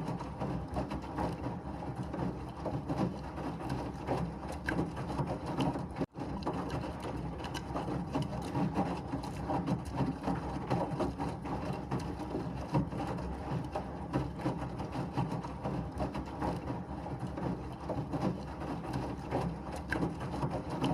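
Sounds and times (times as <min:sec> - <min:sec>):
washing machine drum rumbling: 0:00.0 - 0:20.9.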